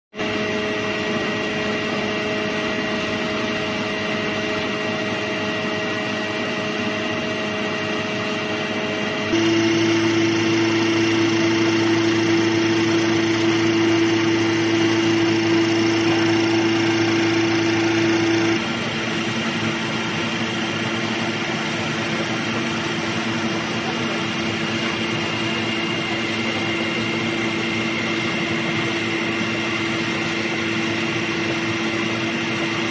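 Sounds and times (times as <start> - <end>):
machinery mechanical hum: 0.2 - 32.9.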